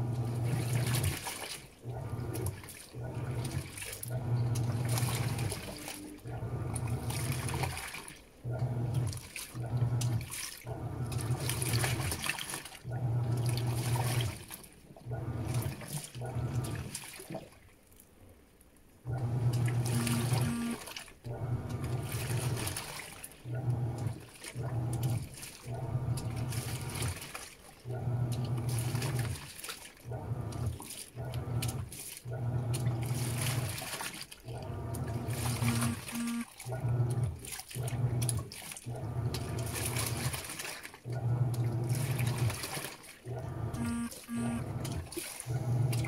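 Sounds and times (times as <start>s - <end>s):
washing machine motor humming: 0.0s - 17.2s, 19.0s - 46.0s
water sloshing: 0.1s - 18.0s, 19.2s - 46.0s.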